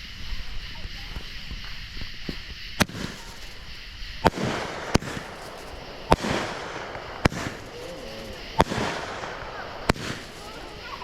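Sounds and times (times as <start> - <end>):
firework bangs: 0.0 - 11.0
firework hissing sizzle: 0.0 - 11.0.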